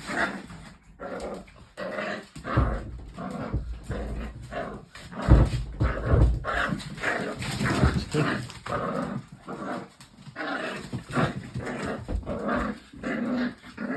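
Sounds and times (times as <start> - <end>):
dogs growling: 0.0 - 13.9.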